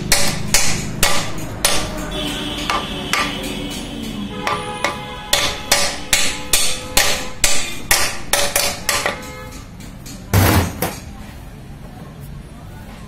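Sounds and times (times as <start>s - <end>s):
hammer tapping metal: 0.0s - 11.1s.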